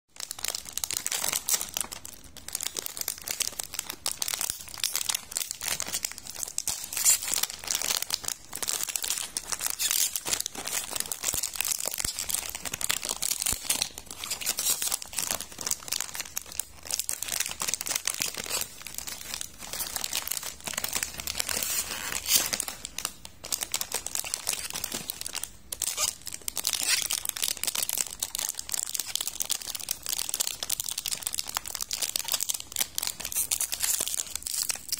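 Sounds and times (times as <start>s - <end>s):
plastic packaging crinkling: 0.2s - 34.9s.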